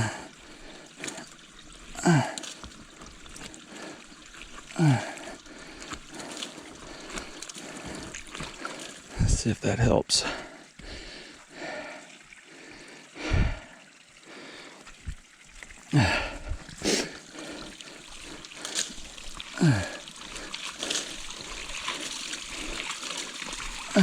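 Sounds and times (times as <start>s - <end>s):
muddy water trickling: 0.0s - 24.0s.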